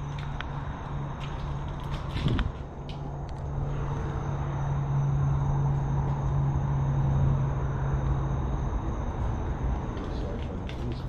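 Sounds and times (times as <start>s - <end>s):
faint high whine: 0.0s - 11.0s
low motor hum: 0.0s - 11.0s.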